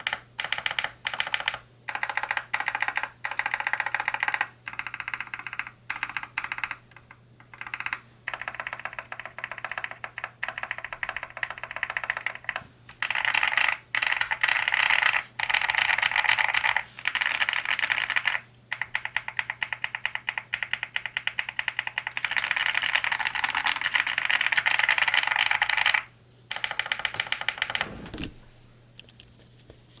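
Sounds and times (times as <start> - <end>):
mechanical keyboard typing: 0.0 - 28.4.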